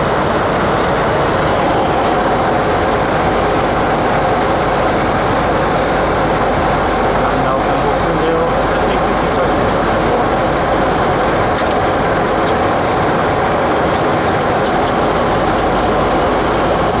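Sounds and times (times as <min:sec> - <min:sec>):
airflow rush in cockpit: 0:00.0 - 0:17.0
jet engines hum: 0:00.0 - 0:17.0.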